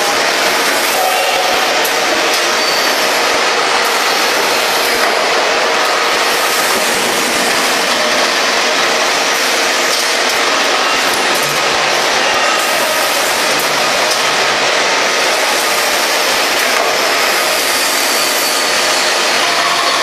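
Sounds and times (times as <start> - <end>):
steady machine noise: 0.0 - 20.0.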